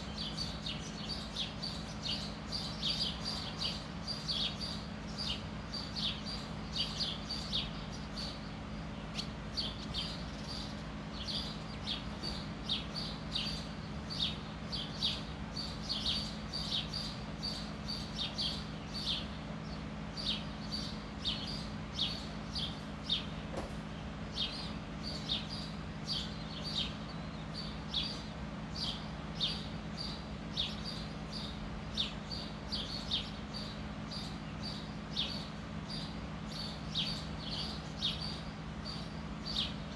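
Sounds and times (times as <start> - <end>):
bird chirping: 0.0 - 39.9
steady low hum: 0.0 - 39.9.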